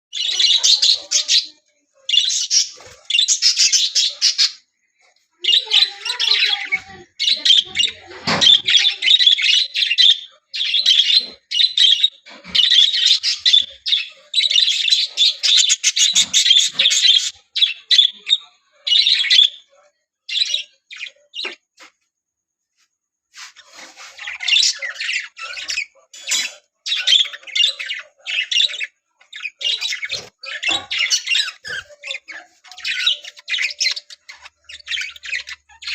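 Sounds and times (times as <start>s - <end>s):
budgerigars chattering and chirping: 0.1s - 4.6s, 5.4s - 21.6s, 23.4s - 35.9s.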